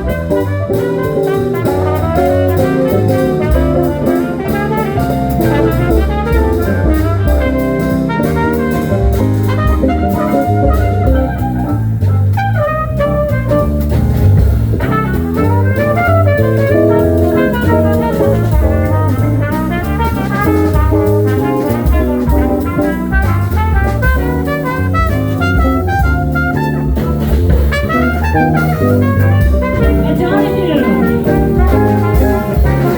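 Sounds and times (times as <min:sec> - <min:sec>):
bass line: 0:00.0 - 0:32.9
drum kit: 0:00.0 - 0:32.9
horns playing lead: 0:00.0 - 0:32.9.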